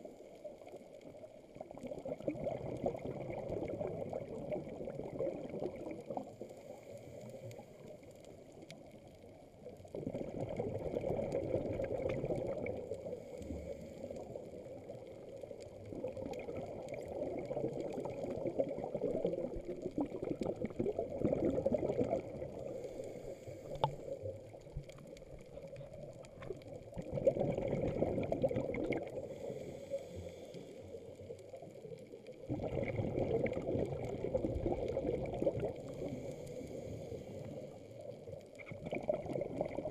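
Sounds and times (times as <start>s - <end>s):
bubbles gurgling underwater: 0.0s - 6.6s, 8.4s - 29.4s, 31.1s - 36.5s, 37.4s - 39.9s.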